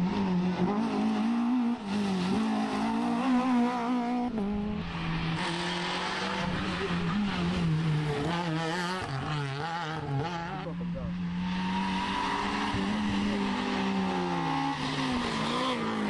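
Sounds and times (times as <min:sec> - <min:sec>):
rally car engines revving past: 0:00.0 - 0:16.0.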